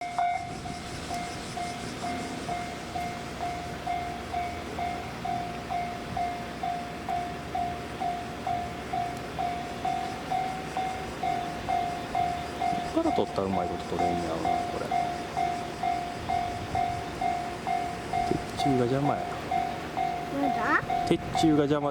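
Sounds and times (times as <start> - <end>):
level crossing warning alarm: 0.0 - 21.9.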